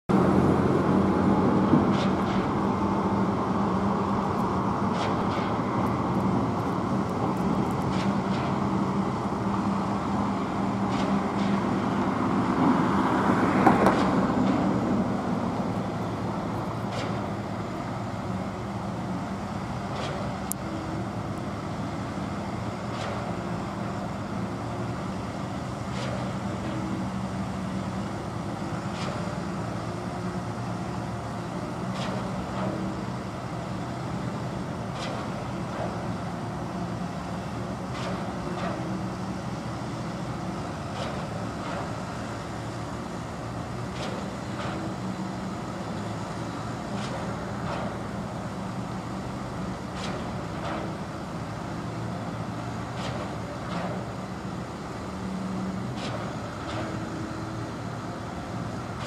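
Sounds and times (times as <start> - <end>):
diesel truck engines running: 0.1 - 59.0.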